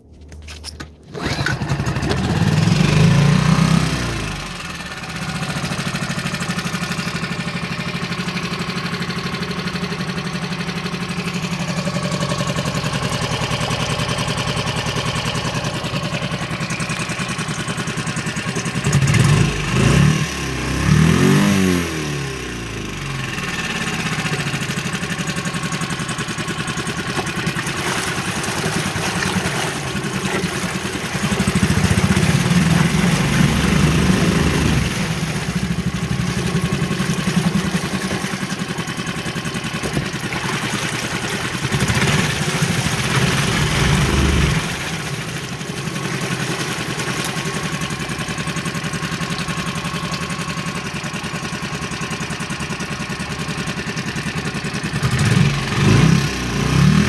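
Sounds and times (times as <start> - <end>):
outboard motor starting and idling: 0.0 - 57.0
outboard motor revving: 1.0 - 57.0.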